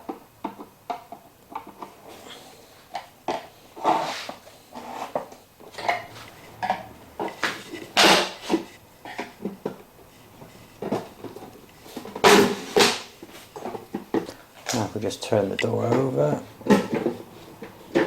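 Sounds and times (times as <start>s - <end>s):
plastic clicking and scraping: 0.1s - 2.2s, 2.9s - 18.0s.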